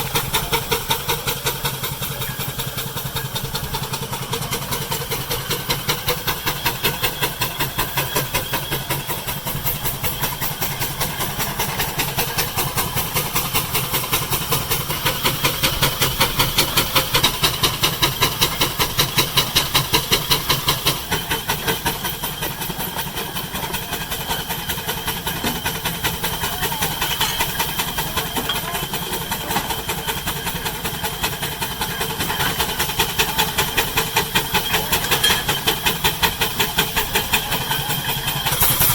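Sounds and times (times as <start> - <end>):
steam engine exhaust chuffing: 0.0 - 38.9
steam hissing: 0.0 - 38.9.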